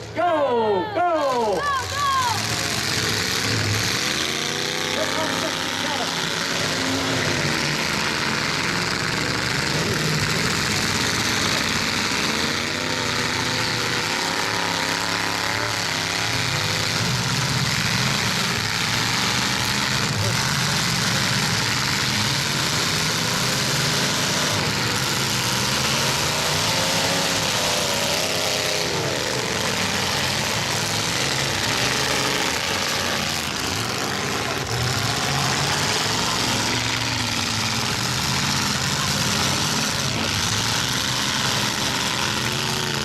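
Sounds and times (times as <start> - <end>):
car engines revving hard: 0.0 - 0.6, 1.2 - 43.0.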